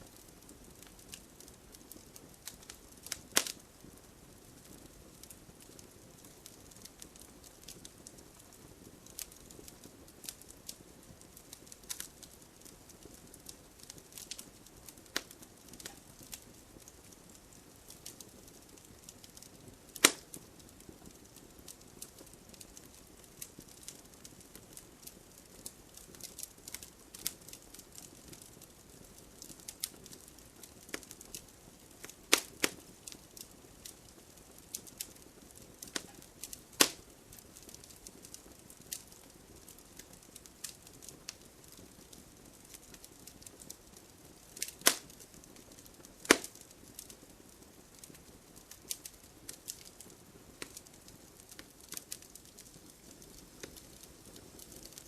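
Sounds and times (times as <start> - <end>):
soft low hiss: 0.0 - 55.0
wood fire crackling and popping: 0.0 - 55.0.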